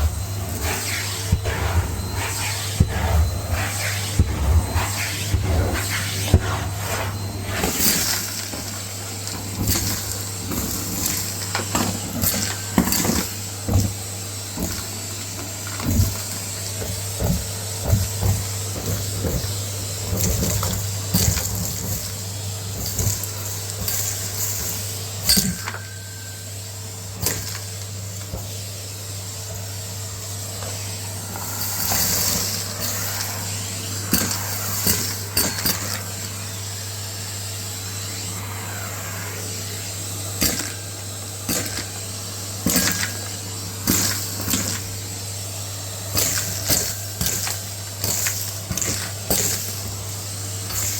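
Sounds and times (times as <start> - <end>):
vacuum cleaner humming: 0.0 - 50.9.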